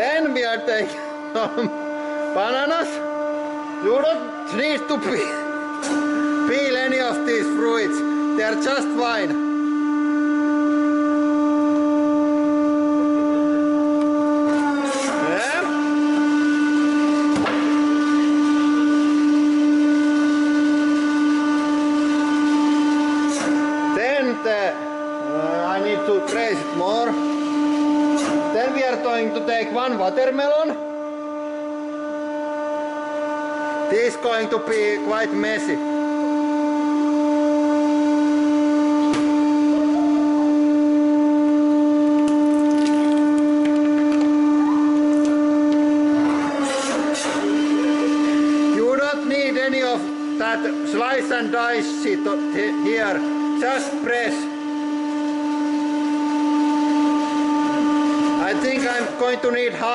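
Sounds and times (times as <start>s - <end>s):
hydraulic pump humming: 0.0s - 59.9s.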